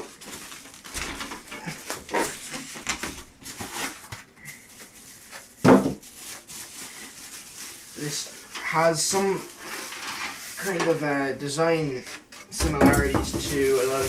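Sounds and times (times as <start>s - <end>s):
packaging rustling and scraping: 0.0s - 11.2s, 12.0s - 14.0s.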